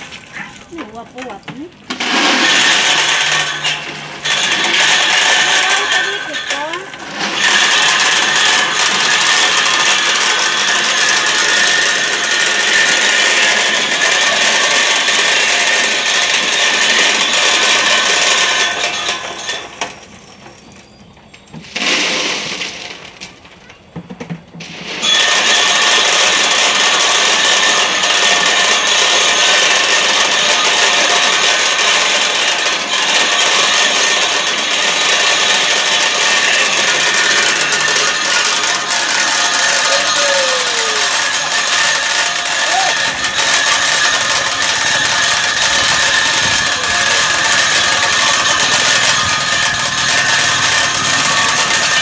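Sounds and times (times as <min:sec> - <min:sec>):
nut-cracking machine rattling: 0:00.0 - 0:52.0.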